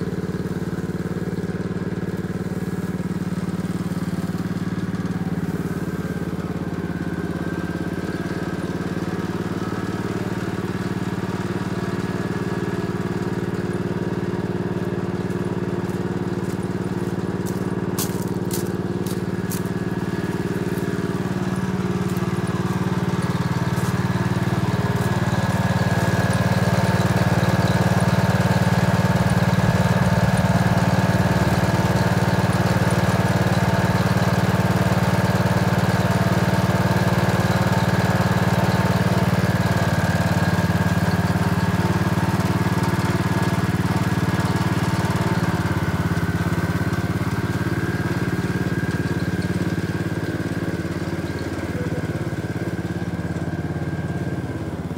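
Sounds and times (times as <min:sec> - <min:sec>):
tractor engine running under load: 0:00.0 - 0:54.9.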